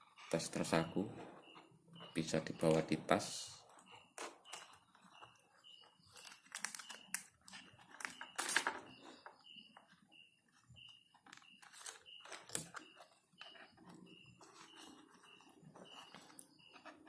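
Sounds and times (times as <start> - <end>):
faint high chirp: 0.0 - 17.0.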